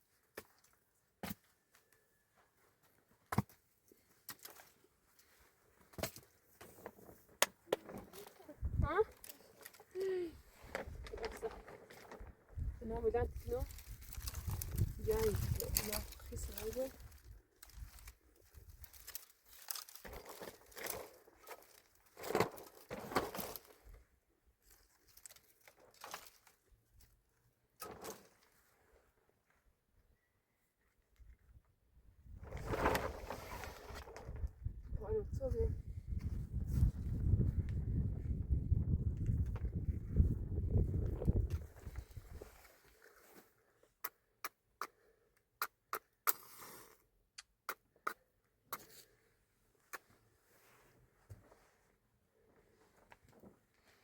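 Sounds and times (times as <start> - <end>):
crinkling and crunching rustles: 0.0 - 29.6, 32.2 - 44.0, 48.8 - 54.0.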